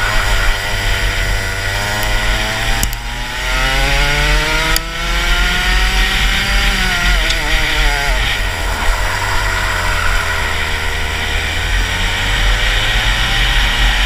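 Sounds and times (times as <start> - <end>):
kart engine revving: 0.0 - 14.0.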